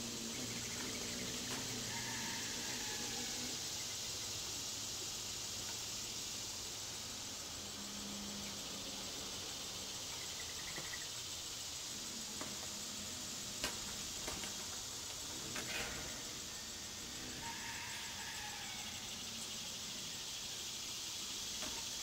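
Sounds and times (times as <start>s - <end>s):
insect chorus hissing: 0.0s - 22.0s.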